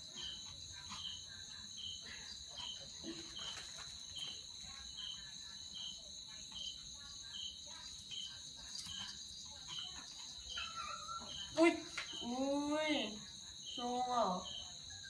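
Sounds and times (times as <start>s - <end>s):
insect chirping: 0.0s - 15.0s
insects trilling: 0.0s - 15.0s.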